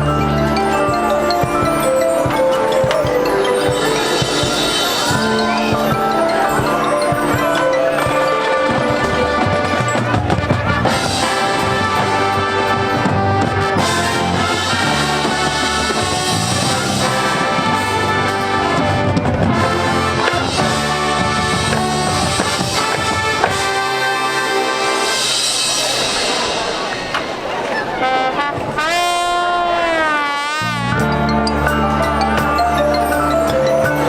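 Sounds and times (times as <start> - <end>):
low brass: 0.0 - 34.0
marching band playing: 0.0 - 34.0.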